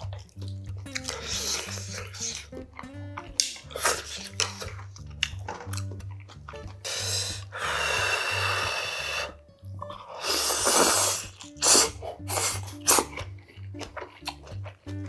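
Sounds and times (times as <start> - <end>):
background music with bass line: 0.0 - 15.0
chewing: 0.0 - 15.0
noodles slurping: 0.0 - 15.0.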